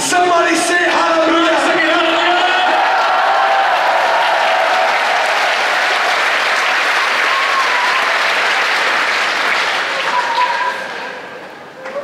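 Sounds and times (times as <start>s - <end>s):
crowd applauding: 1.4s - 11.5s.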